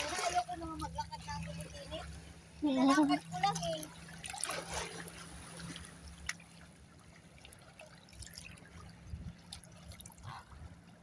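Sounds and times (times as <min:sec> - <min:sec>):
faint trickling water: 0:00.0 - 0:11.0.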